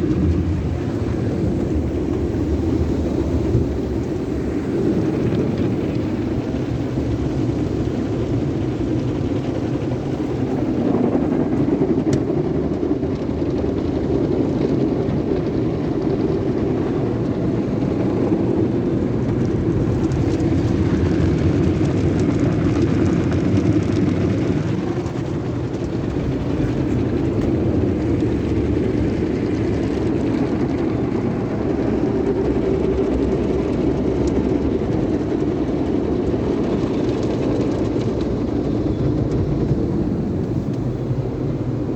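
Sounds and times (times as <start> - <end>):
car wash machinery and water: 0.0 - 41.9.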